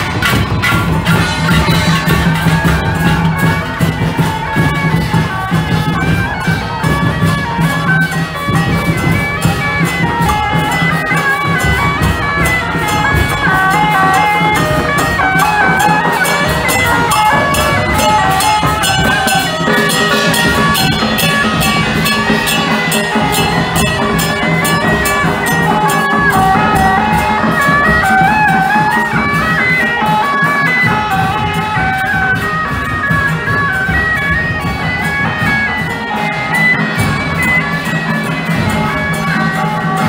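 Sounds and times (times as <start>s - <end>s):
drums and cymbals: 0.0s - 40.0s
shawm playing a loud melody: 0.0s - 40.0s.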